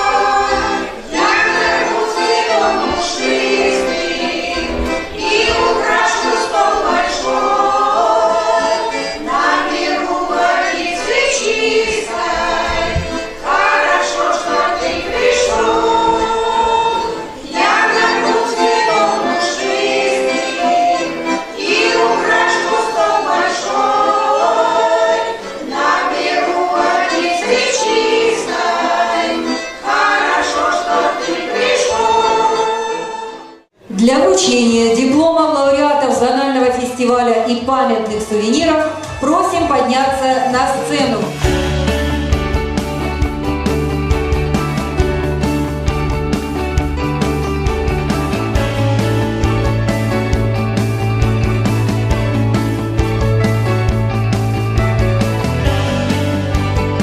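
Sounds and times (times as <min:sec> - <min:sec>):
choir singing with music: 0:00.0 - 0:57.0.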